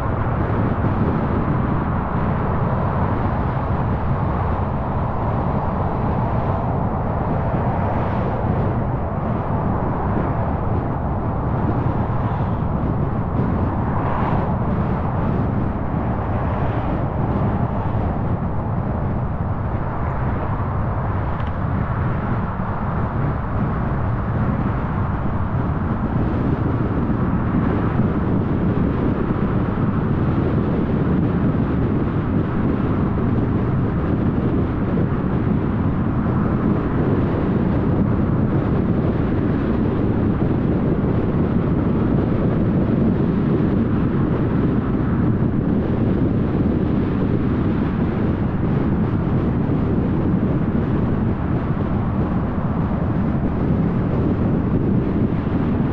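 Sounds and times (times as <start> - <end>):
wind noise: 0.0 - 55.9.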